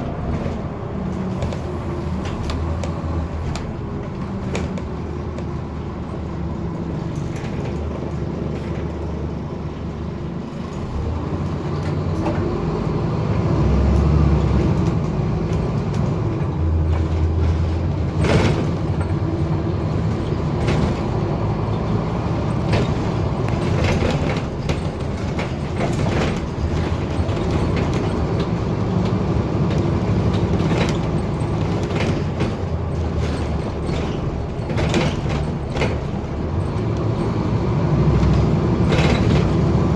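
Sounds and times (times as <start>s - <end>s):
bus body rattling and knocking: 0.0s - 39.9s
bus engine revving high: 0.0s - 39.9s.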